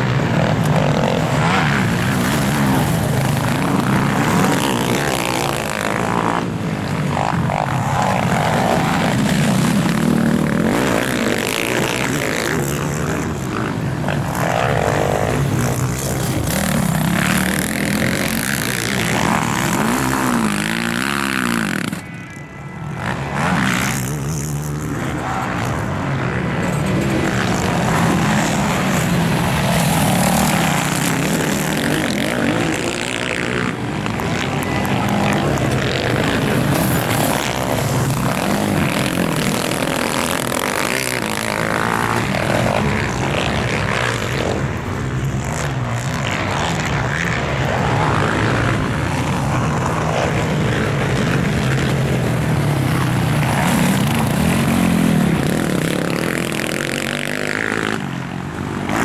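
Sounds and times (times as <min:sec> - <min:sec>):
quad bike engines revving: 0:00.0 - 0:59.0.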